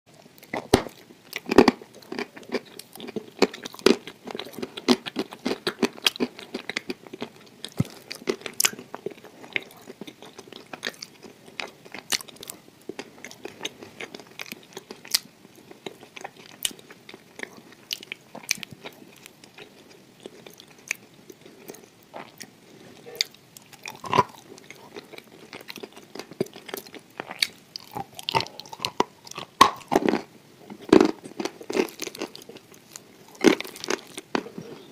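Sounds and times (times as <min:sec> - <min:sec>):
crunchy biting and chewing: 0:00.4 - 0:34.9.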